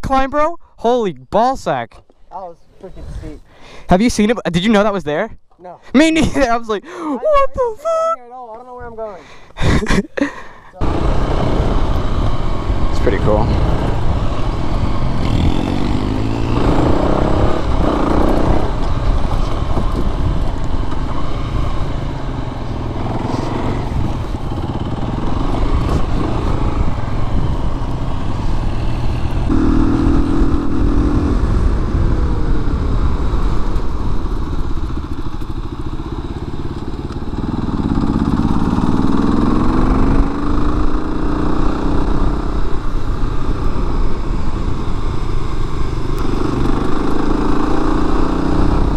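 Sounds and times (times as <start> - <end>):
dirt bike engine accelerating: 9.5 - 48.9.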